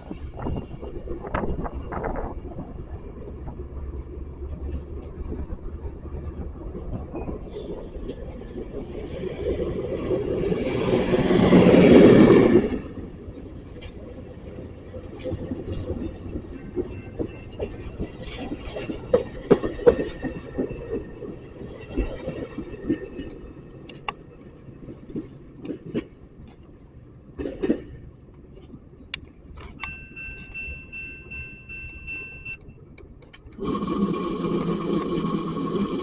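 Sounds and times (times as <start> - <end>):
train rumbling on track: 0.0 - 36.0
wheels clicking and clunking: 0.0 - 36.0.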